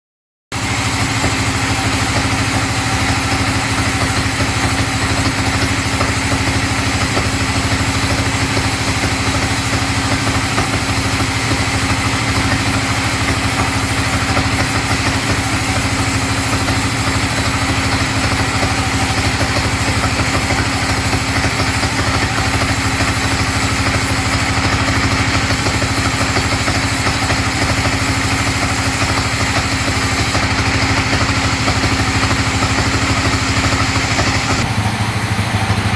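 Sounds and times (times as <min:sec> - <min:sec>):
bandsaw humming: 0:00.5 - 0:35.9.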